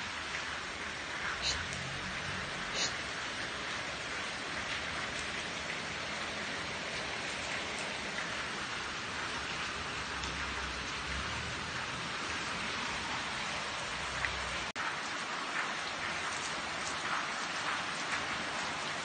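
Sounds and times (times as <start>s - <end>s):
rain on concrete: 0.0s - 19.0s.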